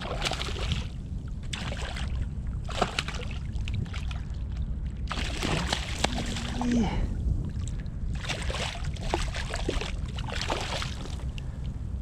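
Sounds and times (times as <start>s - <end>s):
water splashing against a kayak: 0.0s - 4.4s, 5.1s - 11.4s
steady low rumble: 0.0s - 12.0s.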